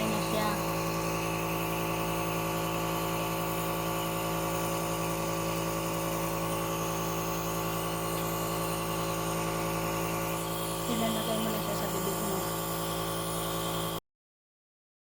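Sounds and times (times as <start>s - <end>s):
nebulizer motor hum: 0.0s - 14.0s.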